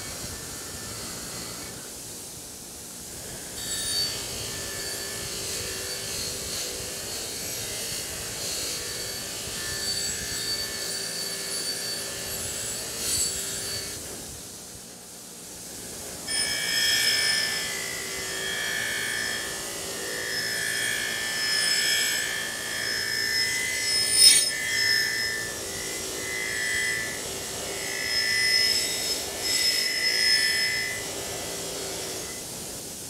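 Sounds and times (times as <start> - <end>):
wire wheel grinder humming: 0.0 - 32.8
wire wheel scratching rusty steel: 3.2 - 14.2, 16.2 - 32.4.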